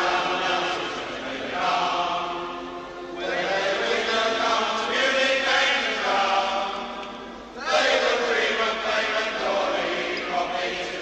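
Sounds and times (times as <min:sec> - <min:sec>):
football crowd chanting: 0:00.0 - 0:06.9, 0:07.6 - 0:11.0.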